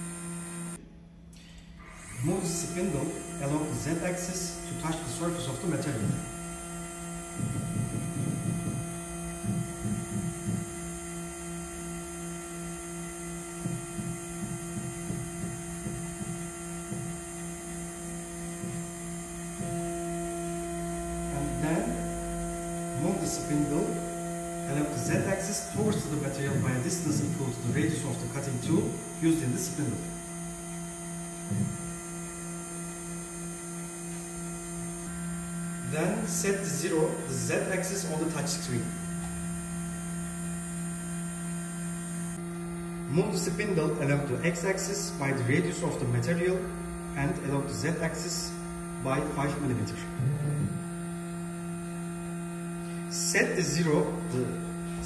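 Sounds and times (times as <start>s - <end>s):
steady electrical hum: 0.0s - 55.0s
stepper motors jogging in bursts: 1.9s - 55.0s.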